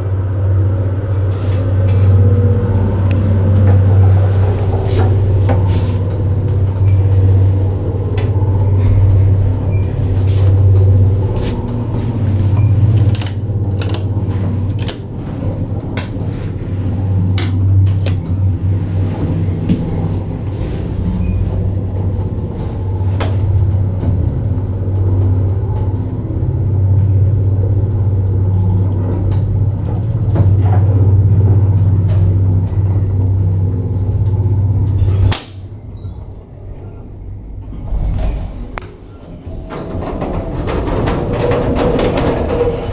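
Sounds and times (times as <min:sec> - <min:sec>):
elevator hoist machine humming: 0:00.0 - 0:42.9.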